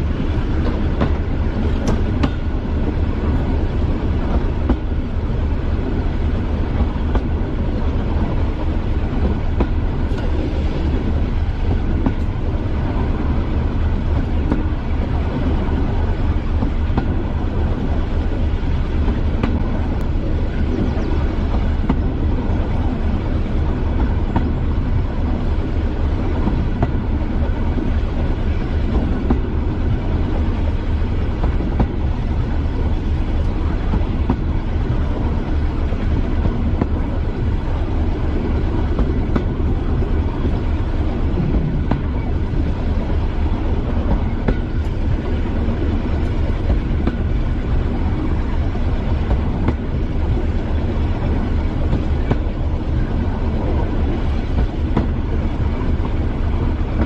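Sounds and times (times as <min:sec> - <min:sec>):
diesel engine throbbing: 0:00.0 - 0:57.0
train rumbling on track: 0:00.0 - 0:57.0.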